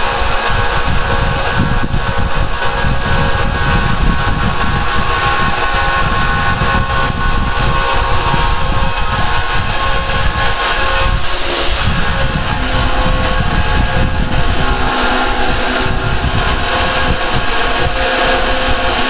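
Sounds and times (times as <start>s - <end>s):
band saw cutting steel: 0.0s - 19.0s.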